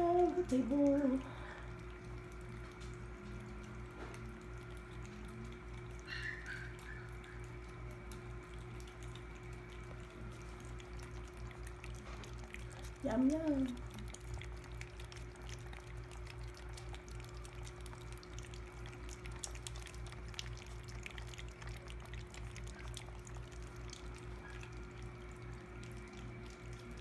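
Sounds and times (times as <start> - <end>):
puppies lapping wet food: 0.0 - 27.0
steady low hum: 0.0 - 27.0.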